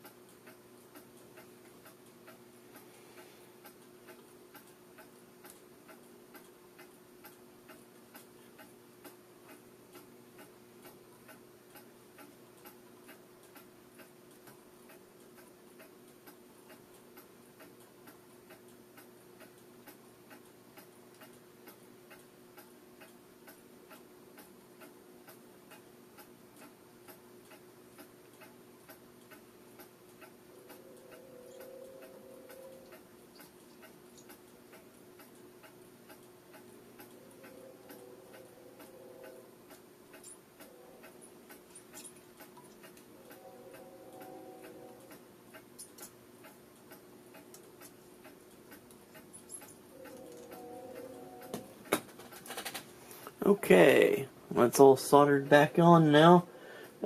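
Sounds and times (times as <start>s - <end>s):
faint regular ticking: 0.0s - 57.0s
steady low hum: 0.0s - 57.0s.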